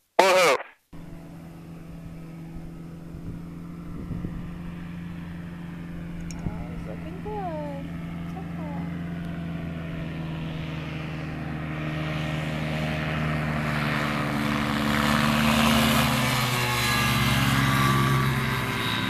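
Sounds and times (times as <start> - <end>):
ultralight plane engine droning: 0.2 - 19.0.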